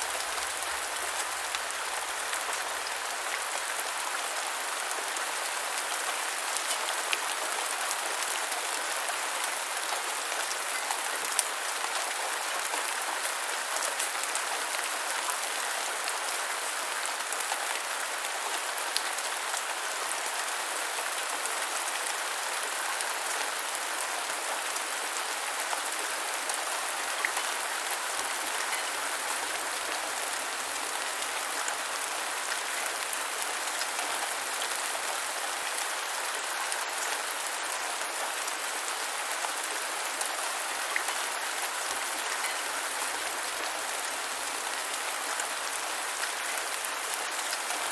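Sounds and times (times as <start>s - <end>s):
light rain falling: 0.0s - 47.9s.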